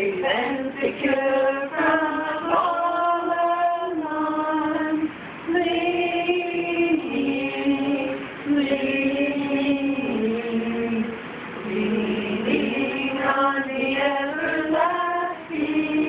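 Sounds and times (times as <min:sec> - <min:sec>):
women and children singing: 0:00.0 - 0:16.0.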